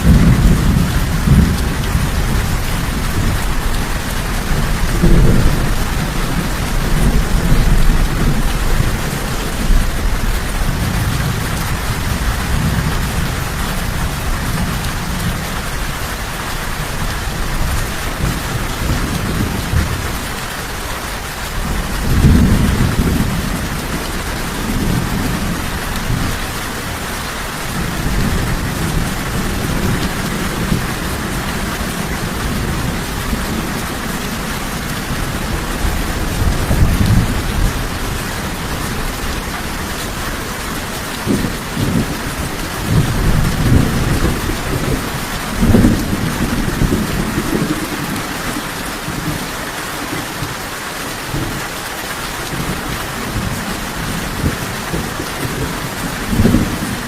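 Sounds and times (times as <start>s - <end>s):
low rolling thunder: 0.0s - 16.1s, 21.5s - 49.5s, 52.5s - 57.0s
steady rain falling: 0.0s - 57.0s.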